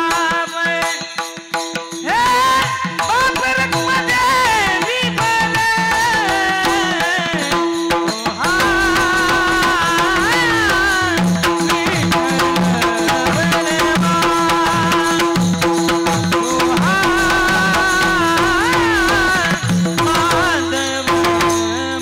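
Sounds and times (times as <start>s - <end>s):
tabla and percussion beat: 0.0s - 22.0s
person singing: 2.0s - 22.0s.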